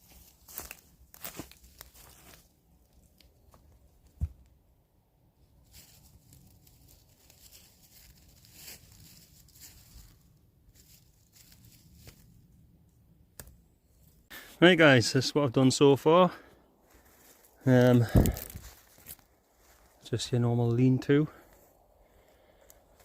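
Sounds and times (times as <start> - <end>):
dry leaves and twigs crackling: 0.0 - 4.6, 5.4 - 14.3, 16.8 - 20.6, 21.2 - 23.0.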